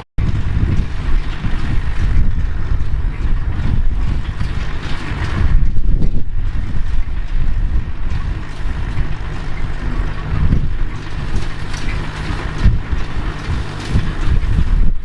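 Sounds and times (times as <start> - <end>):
farm machine engine running: 0.0 - 15.0
wind buffeting microphone: 0.2 - 15.0.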